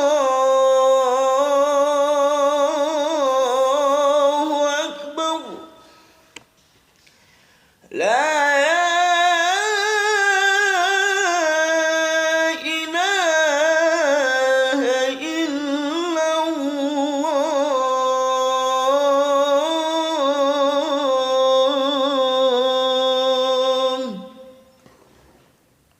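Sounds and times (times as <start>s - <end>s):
man singing call to prayer: 0.0s - 6.0s, 7.8s - 24.7s.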